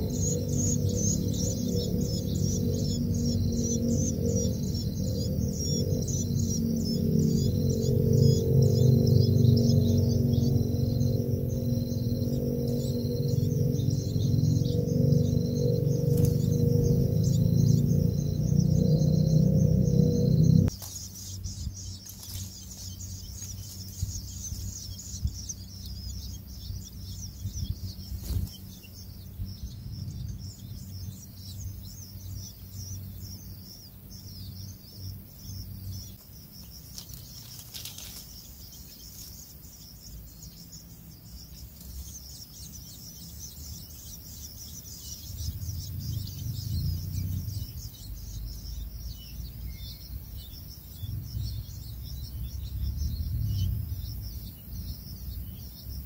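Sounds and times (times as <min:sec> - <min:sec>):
low rumble: 0:00.0 - 0:20.8, 0:21.4 - 0:36.2, 0:42.2 - 0:55.9
nestlings chittering: 0:00.0 - 0:56.0.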